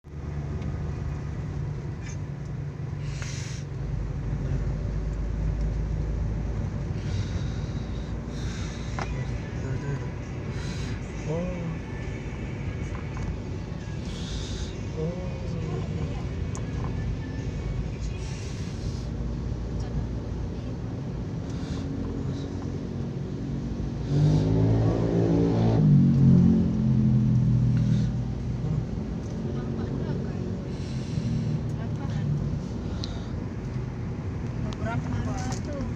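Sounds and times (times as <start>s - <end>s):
car interior road rumble: 0.0s - 35.9s.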